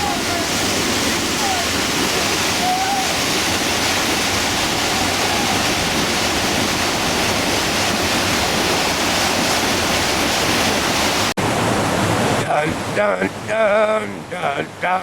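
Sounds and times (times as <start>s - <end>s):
whitewater river roaring: 0.0s - 15.0s.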